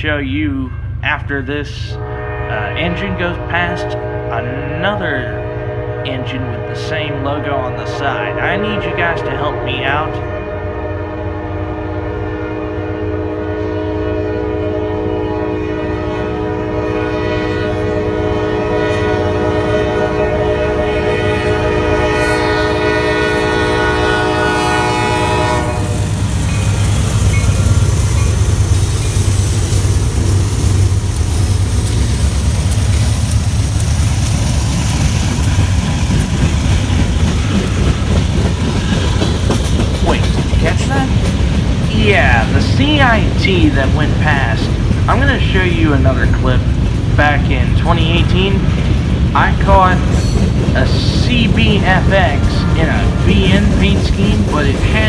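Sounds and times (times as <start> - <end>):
train passing rumble and rattle: 0.0 - 55.0
locomotive horn blast: 1.7 - 32.0, 35.0 - 55.0.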